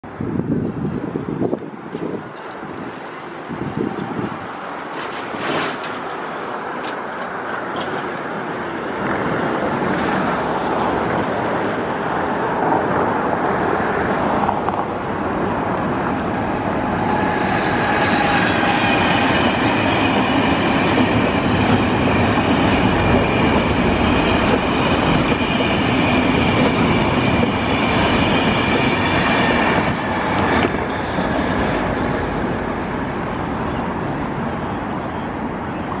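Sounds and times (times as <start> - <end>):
train wheels rumbling on rail: 0.1 - 36.0.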